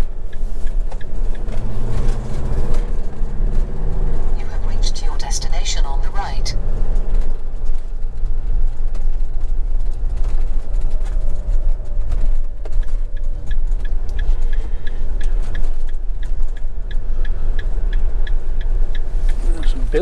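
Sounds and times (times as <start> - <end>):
turn indicator ticking: 0.0 - 9.0, 9.6 - 20.0
diesel engine running: 0.0 - 20.0.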